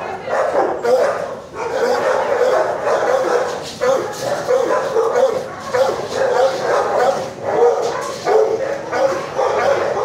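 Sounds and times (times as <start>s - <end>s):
dogs barking and yipping: 0.0s - 10.0s.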